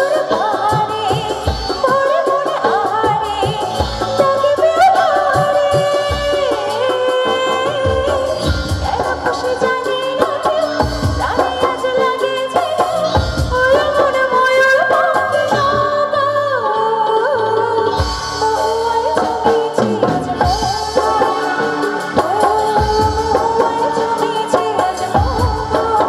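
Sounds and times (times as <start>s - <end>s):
band accompaniment: 0.0s - 26.0s
woman singing through microphone: 0.0s - 26.0s.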